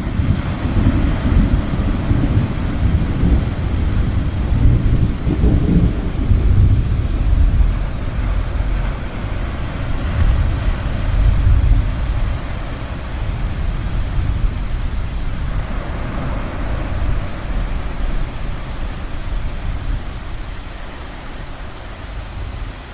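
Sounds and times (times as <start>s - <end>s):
rolling thunder: 0.0s - 22.8s
ocean waves: 0.0s - 22.9s.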